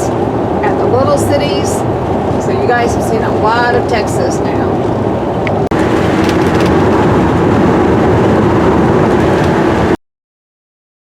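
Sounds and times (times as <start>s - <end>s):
vehicle road and engine noise: 0.0s - 10.0s.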